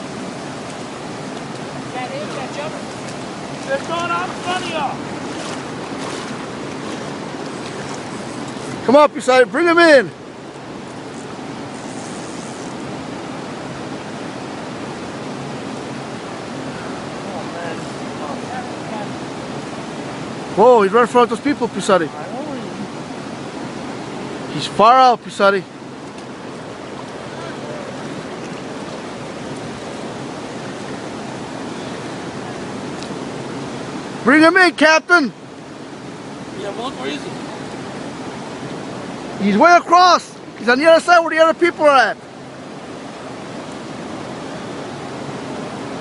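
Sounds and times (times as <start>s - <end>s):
turbulent river water rushing: 0.0s - 46.0s.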